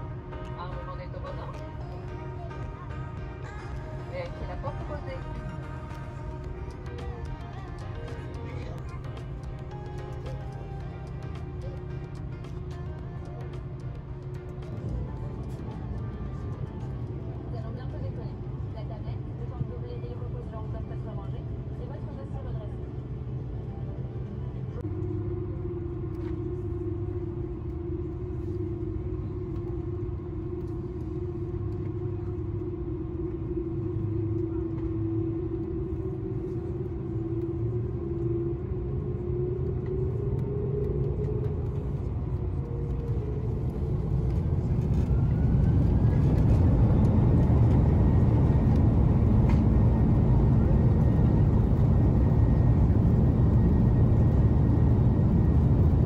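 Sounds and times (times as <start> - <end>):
jet engine rising whine: 0.0 - 56.0
jet engine rumble in cabin: 0.0 - 56.0.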